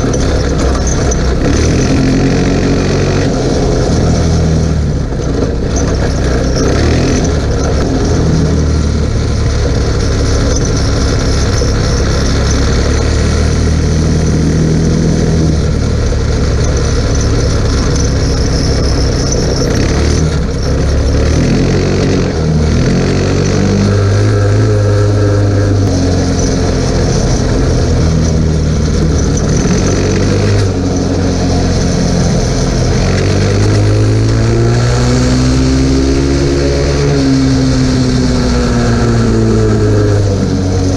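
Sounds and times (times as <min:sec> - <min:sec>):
quad bike engine revving: 0:00.0 - 0:40.9.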